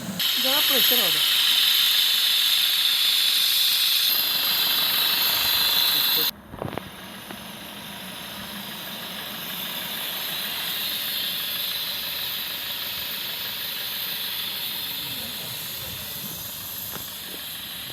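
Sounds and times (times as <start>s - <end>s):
steady hiss: 0.0s - 6.3s, 7.0s - 17.9s
diesel engine idling hum: 0.0s - 17.9s.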